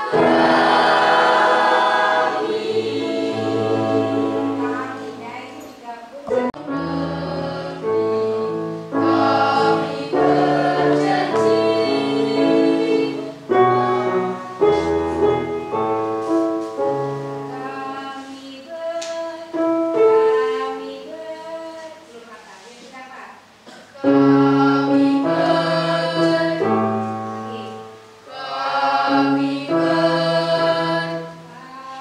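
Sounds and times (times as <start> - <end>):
children's choir singing: 0.0 - 5.4, 6.3 - 21.8, 23.7 - 32.0.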